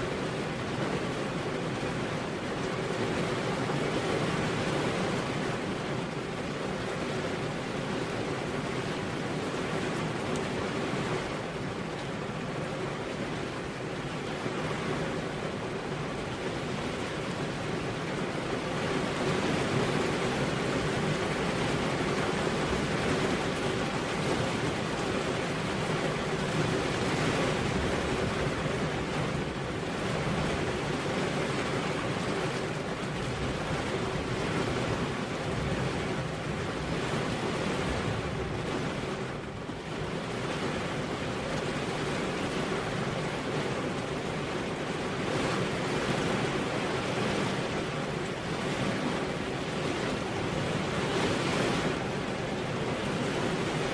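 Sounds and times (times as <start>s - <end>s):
heavy rain on a road: 0.0s - 53.9s.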